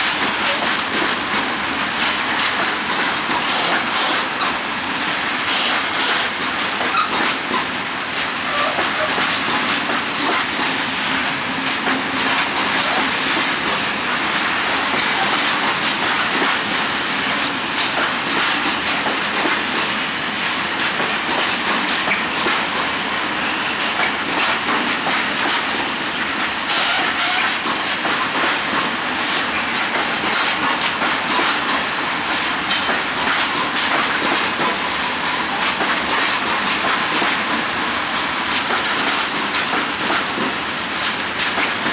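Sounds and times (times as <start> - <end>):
train rolling past: 0.0 - 41.9
wheels clicking over rail joints: 0.0 - 41.9.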